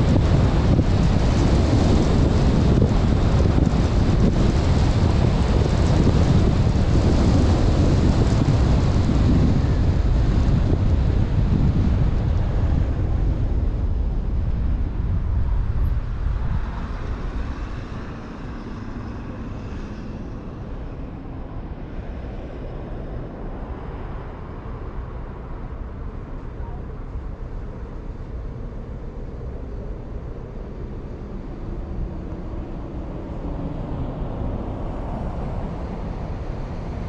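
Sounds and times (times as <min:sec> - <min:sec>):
road rumble: 0:00.0 - 0:37.0
wind buffeting microphone: 0:00.0 - 0:37.0.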